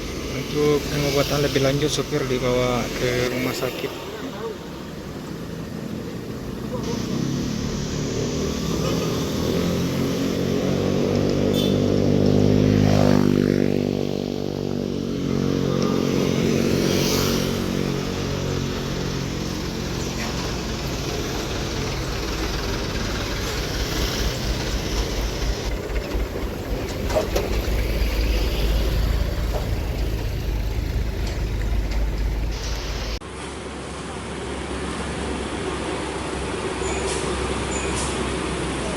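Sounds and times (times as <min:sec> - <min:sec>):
vehicle passing by: 0:00.0 - 0:25.8, 0:26.5 - 0:33.2
traffic rumble: 0:00.0 - 0:38.9.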